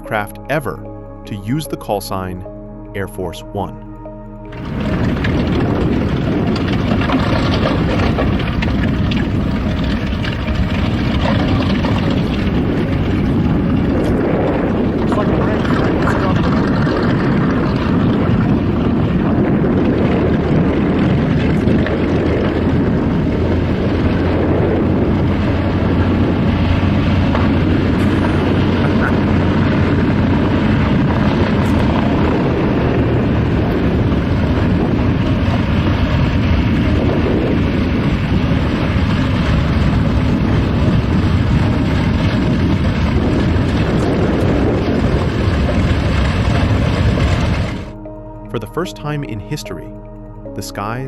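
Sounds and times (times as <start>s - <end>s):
propeller engines droning: 0.0s - 51.0s
rushing noise: 3.5s - 51.0s.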